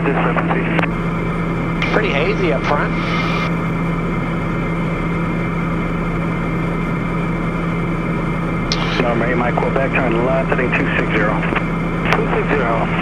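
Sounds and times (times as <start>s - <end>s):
constant low hum: 0.0s - 13.0s
turboprop aircraft droning: 0.0s - 13.0s.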